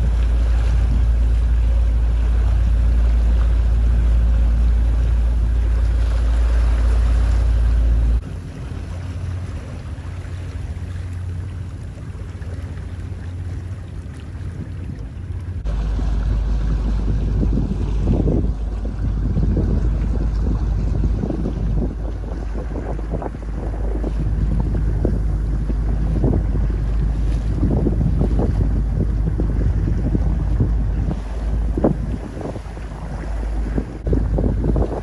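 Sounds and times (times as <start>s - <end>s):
heavy low rumble: 0.0s - 35.0s
water washing around boat: 0.0s - 35.0s
wind buffeting microphone: 0.0s - 35.0s.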